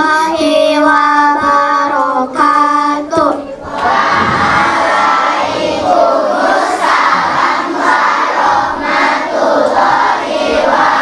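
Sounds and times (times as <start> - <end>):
children singing and chanting: 0.0 - 11.0.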